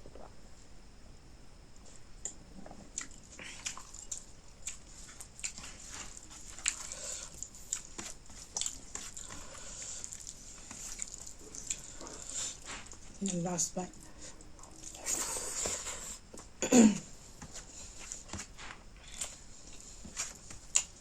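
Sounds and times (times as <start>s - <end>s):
wet chewing and lip-smacking: 2.2s - 13.4s, 14.0s - 16.6s, 17.4s - 21.0s.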